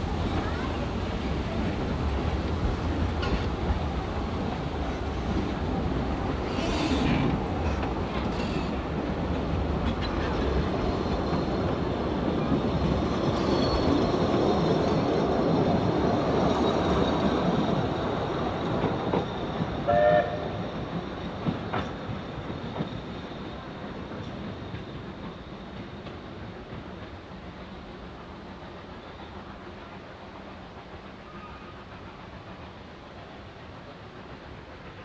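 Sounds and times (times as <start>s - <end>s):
train wheels clicking over rail joints: 1.6s - 19.9s, 20.5s - 35.0s.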